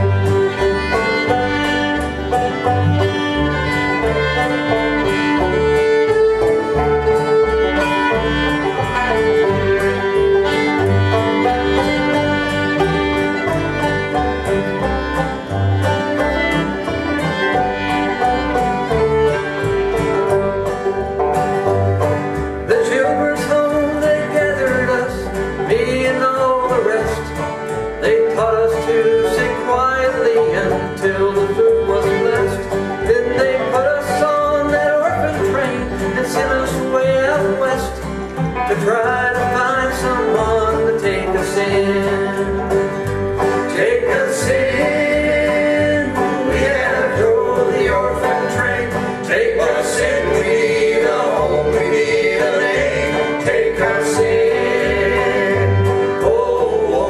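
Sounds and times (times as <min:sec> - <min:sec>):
banjo: 0:00.0 - 0:57.0
fiddle melody: 0:00.0 - 0:57.0
guitar: 0:00.0 - 0:57.0.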